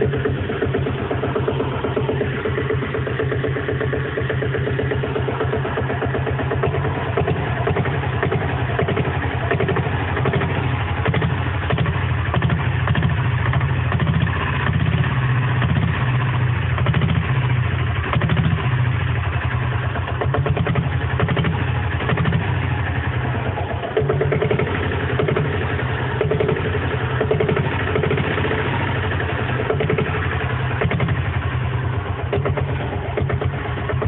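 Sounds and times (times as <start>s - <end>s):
motorcycle diesel engine idling: 0.0s - 34.0s.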